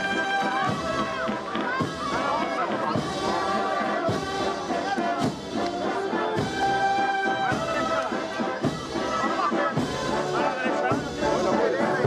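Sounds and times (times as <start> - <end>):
brass band playing held chords: 0.0 - 12.0.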